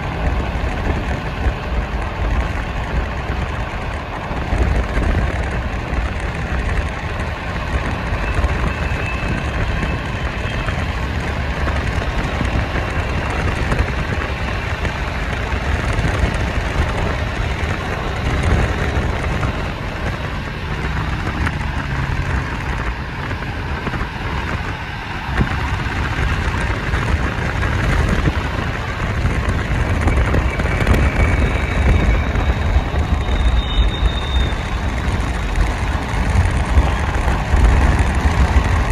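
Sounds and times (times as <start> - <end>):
deep tyre rumble: 0.0 - 38.9
rushing wind: 0.0 - 38.9.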